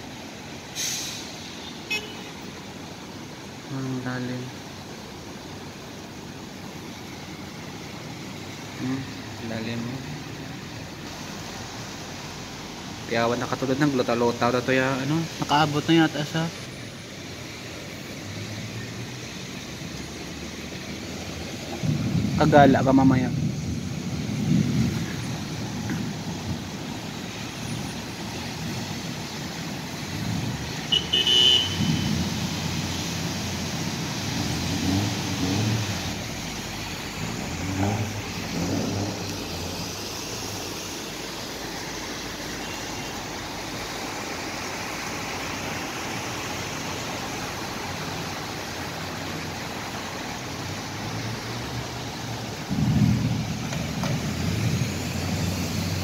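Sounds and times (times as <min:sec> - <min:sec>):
low rumbles of passing vehicles: 0:00.0 - 0:56.0
water wash and tyre noise: 0:00.0 - 0:56.0
vehicle engines passing: 0:02.4 - 0:56.0.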